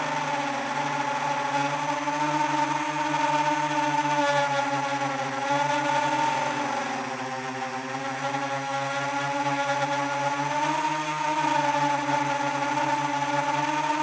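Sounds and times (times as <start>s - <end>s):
quadcopter propellers whining: 0.0s - 14.0s.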